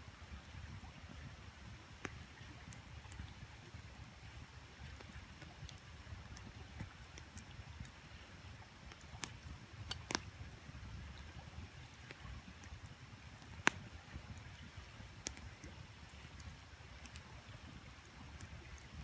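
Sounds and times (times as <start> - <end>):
campfire crackling: 0.0 - 19.0
fire popping: 1.6 - 19.0.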